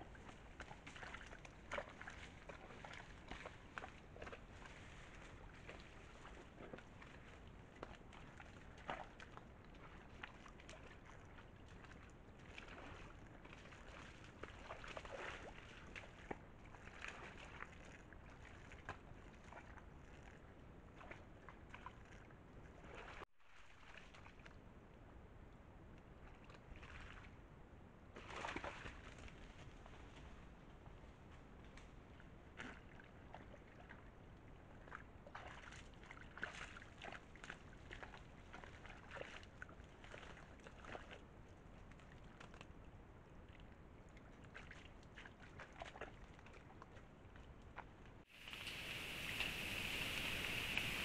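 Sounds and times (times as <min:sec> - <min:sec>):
deer splashing and slurping water: 0:00.0 - 0:24.8, 0:26.1 - 0:27.5, 0:28.2 - 0:51.0.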